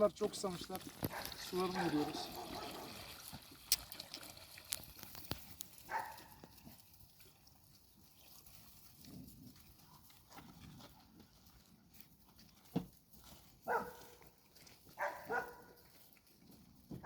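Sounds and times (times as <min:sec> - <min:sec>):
puppies drinking water: 0:00.0 - 0:17.0.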